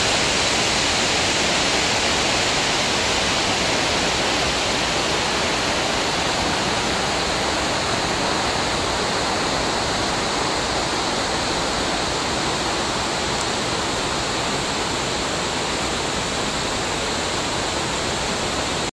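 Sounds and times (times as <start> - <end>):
river water rushing over rapids: 0.0 - 18.9.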